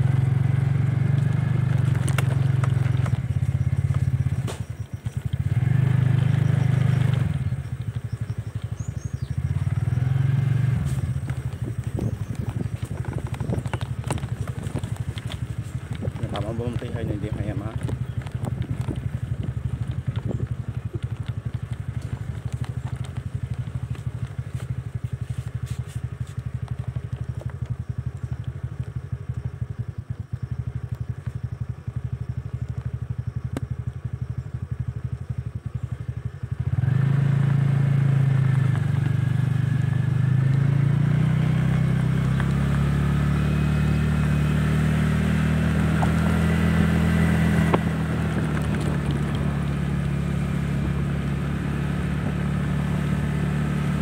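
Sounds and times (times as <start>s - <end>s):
motorcycle engine pulsing: 0.0s - 54.0s.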